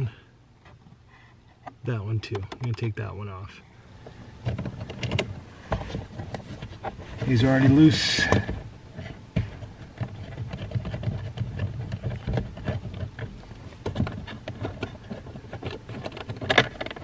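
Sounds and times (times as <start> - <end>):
steady low hum: 0.0 - 17.0
clicks and knocks on plastic panel: 1.6 - 3.0, 4.4 - 17.0.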